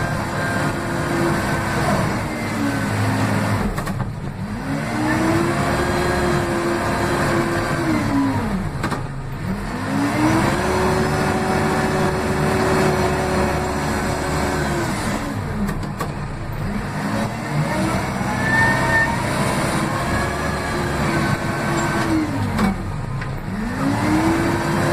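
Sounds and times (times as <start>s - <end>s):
diesel engine revving: 0.0s - 24.9s.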